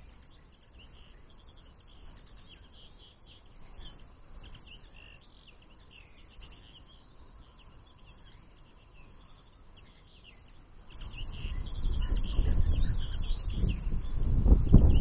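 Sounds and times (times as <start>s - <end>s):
birds twittering: 0.0s - 15.0s.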